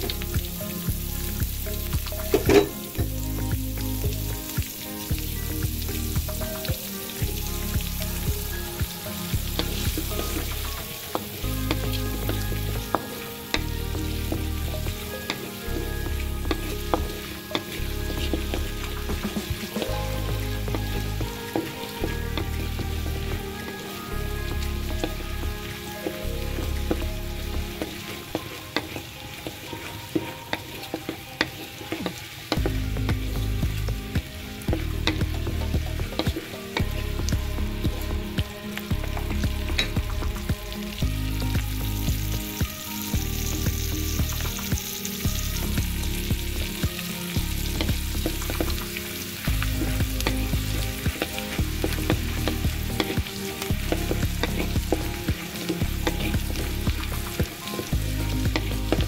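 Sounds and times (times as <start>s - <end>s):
background music with low beat: 0.0s - 59.0s
garlic sizzling in butter: 0.0s - 59.0s.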